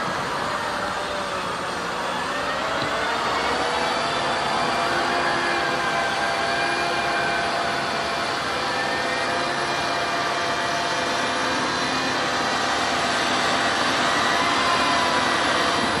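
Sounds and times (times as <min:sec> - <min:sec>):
cooling fan noise: 0:00.0 - 0:16.0
wheel loader diesel engine: 0:00.0 - 0:16.0.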